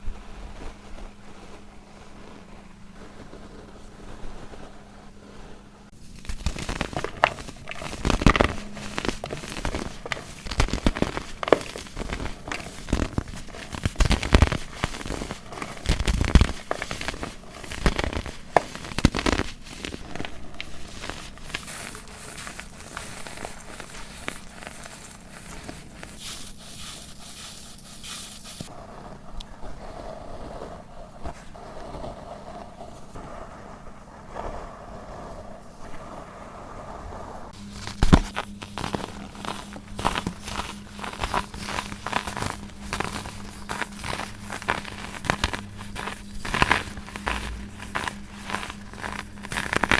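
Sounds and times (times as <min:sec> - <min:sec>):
powder crunching and crackling: 0:00.0 - 0:33.1, 0:37.5 - 0:49.9.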